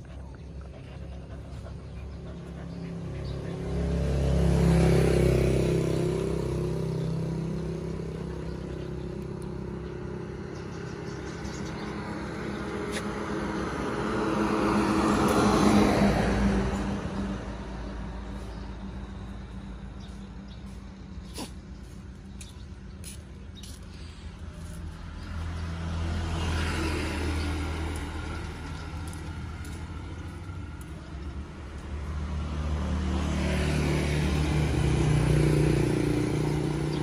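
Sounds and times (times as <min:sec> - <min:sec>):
motor vehicles passing by: 0:00.0 - 0:37.0.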